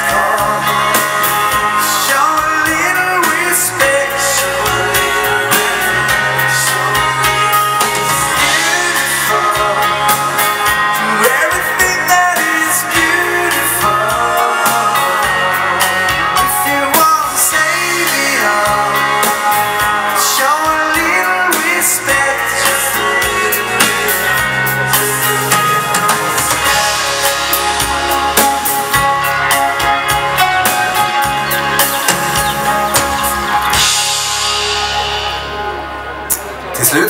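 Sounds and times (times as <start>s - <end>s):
live dance band playing: 0.0s - 37.0s.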